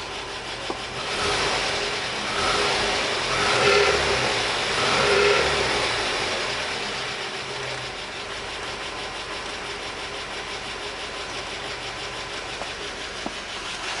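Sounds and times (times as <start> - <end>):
petrol engine idling: 0.0 - 14.0
rapid ticking engine knock: 0.0 - 14.0.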